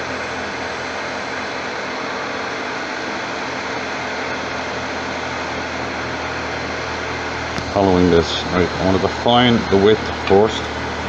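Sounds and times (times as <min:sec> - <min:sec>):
wood lathe whirring: 0:00.0 - 0:11.0.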